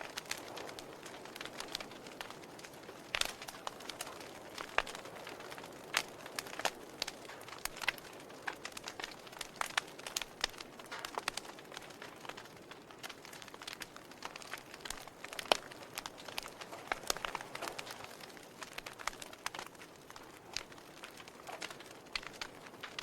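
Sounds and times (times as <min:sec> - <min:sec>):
fire crackling and popping: 0:00.0 - 0:23.0
soft fire hiss: 0:00.0 - 0:23.0.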